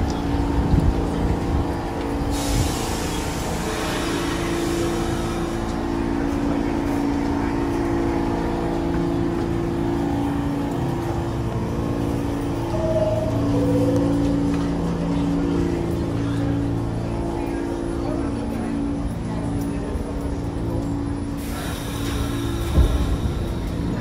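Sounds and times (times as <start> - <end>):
subway train humming: 0.0 - 24.0.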